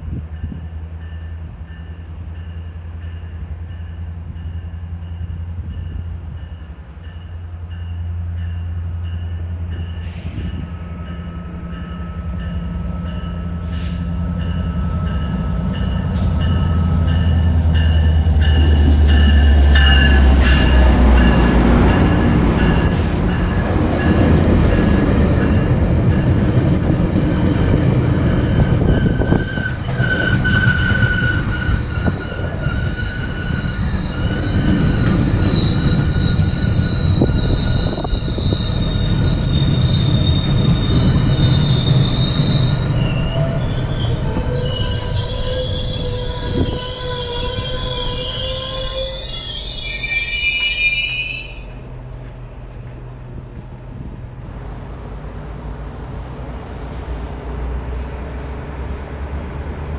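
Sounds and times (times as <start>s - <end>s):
diesel locomotive engine droning: 0.0s - 59.9s
train bell ringing: 0.3s - 51.8s
train wheels and brakes squealing: 0.4s - 53.0s.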